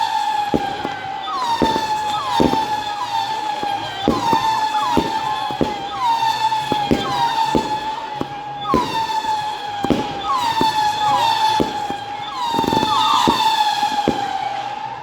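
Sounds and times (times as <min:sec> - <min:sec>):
fireworks cracking: 0:00.0 - 0:15.0
fireworks whistling: 0:00.0 - 0:15.0.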